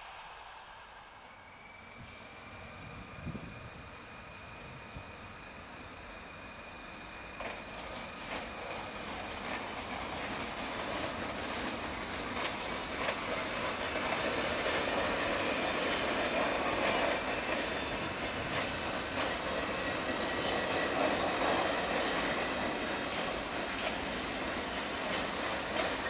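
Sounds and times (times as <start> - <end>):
electric train running slowly: 0.0 - 26.0.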